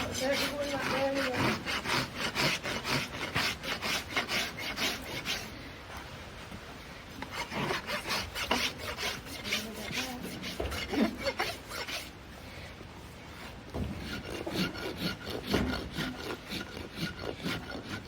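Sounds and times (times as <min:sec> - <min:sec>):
rasp filing a hoof: 0:00.0 - 0:05.6, 0:07.2 - 0:12.2, 0:13.2 - 0:18.0.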